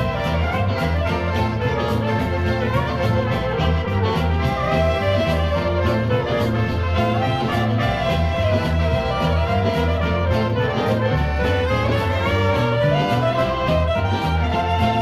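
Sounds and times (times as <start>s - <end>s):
instrumental latin band music: 0.0s - 15.0s.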